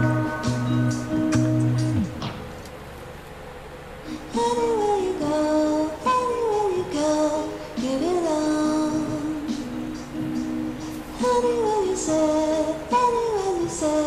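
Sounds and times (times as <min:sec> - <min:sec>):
song with high singing voice: 0:00.0 - 0:02.6, 0:04.1 - 0:14.0.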